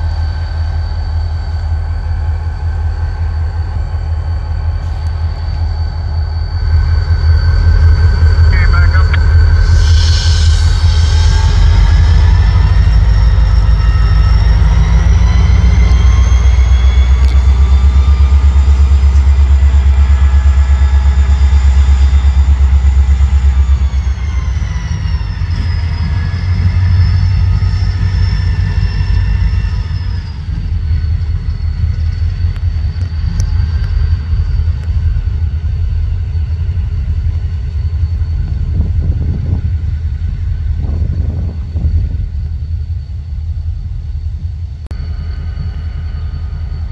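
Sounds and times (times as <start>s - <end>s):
locomotive engine rumble: 0.0s - 46.9s
turbocharger whine: 0.0s - 46.9s.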